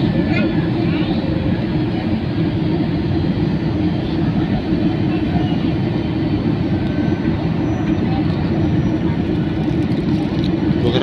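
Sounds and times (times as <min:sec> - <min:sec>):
airliner engine and airflow noise: 0:00.0 - 0:11.0.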